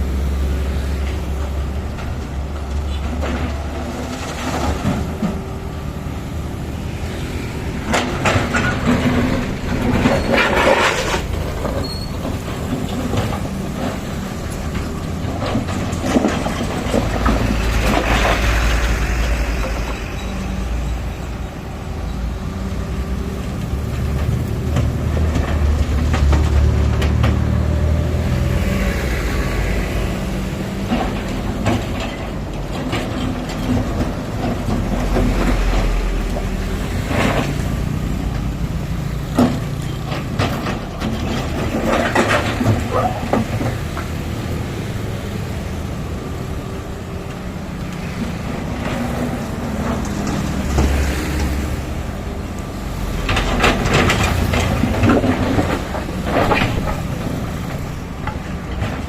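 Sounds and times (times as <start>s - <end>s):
diesel engines rumbling: 0.0s - 59.0s.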